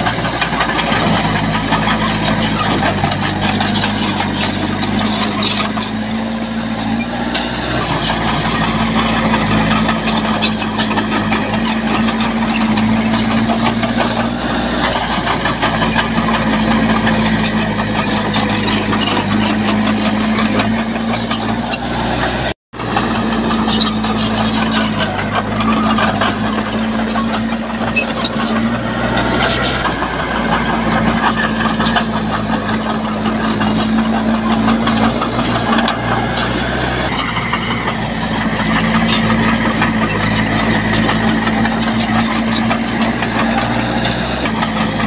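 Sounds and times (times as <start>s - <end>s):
heavy machinery diesel engine: 0.0s - 45.0s
machinery clatter: 0.0s - 45.0s.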